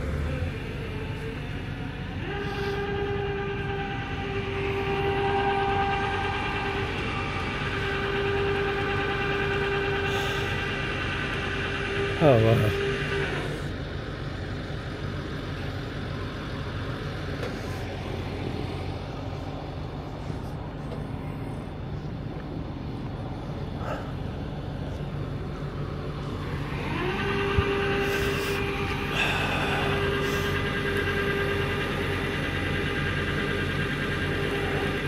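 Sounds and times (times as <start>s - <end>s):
high steady whine: 0.0s - 35.0s
truck engine idling: 0.0s - 35.0s.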